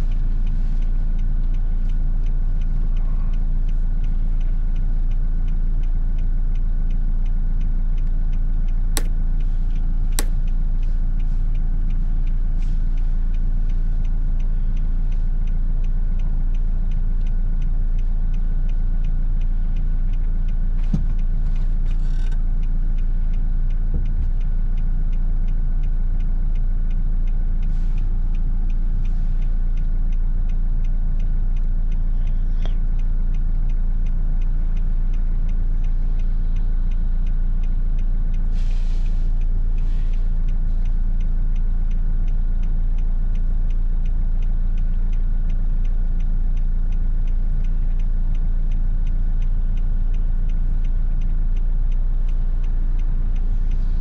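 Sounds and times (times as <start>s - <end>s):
diesel van engine rumble: 0.0s - 54.0s.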